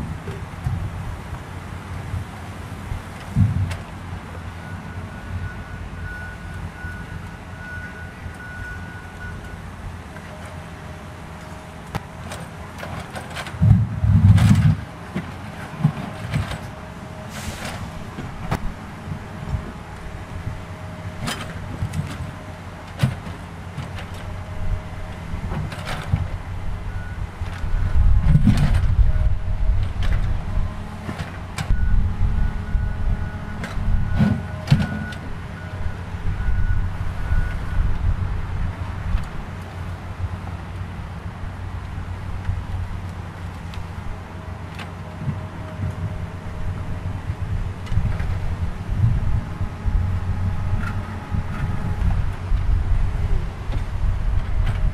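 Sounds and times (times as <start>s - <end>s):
low outdoor rumble: 0.0s - 54.9s.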